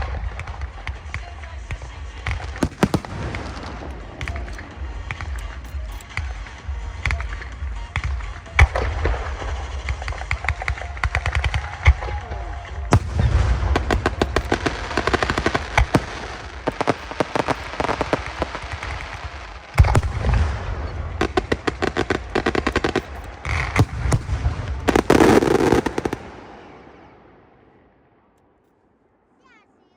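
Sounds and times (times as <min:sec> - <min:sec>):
fireworks bangs and crackles: 0:00.0 - 0:27.6.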